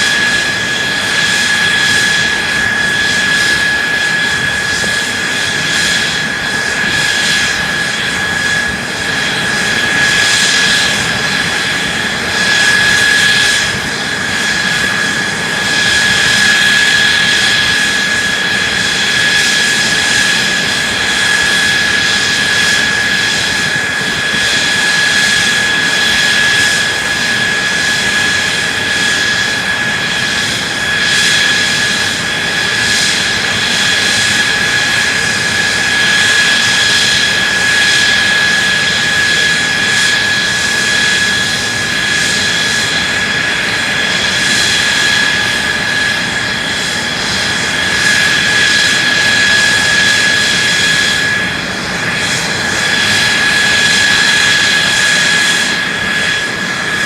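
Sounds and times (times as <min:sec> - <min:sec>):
high engine whine: 0:00.0 - 0:57.0
jet engine running: 0:00.0 - 0:57.0.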